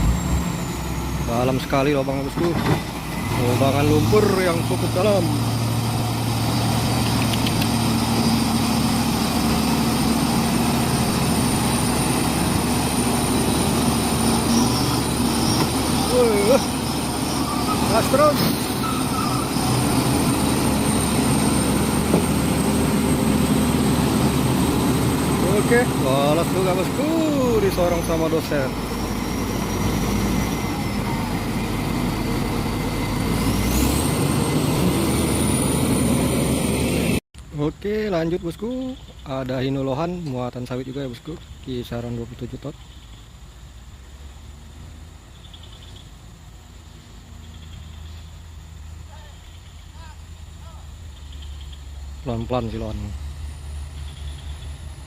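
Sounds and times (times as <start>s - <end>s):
truck diesel engine at high revs: 0.0s - 37.2s, 43.5s - 55.0s.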